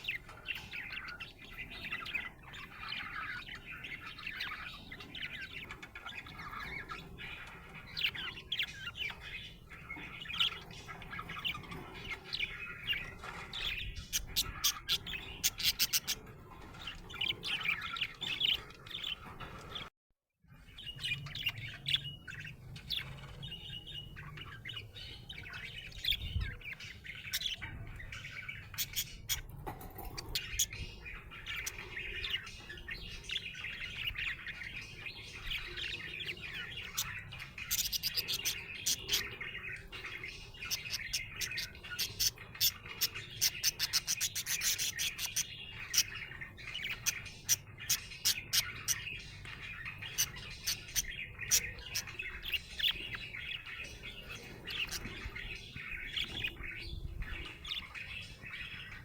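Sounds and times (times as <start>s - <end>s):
budgerigar chirping and warbling: 0.0s - 19.9s, 20.8s - 59.0s.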